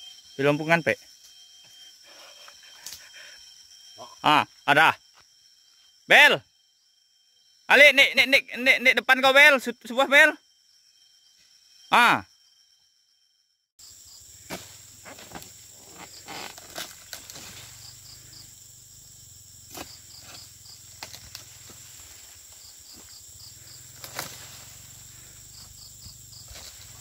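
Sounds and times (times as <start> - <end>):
insects buzzing and chirping: 0.0 - 27.0.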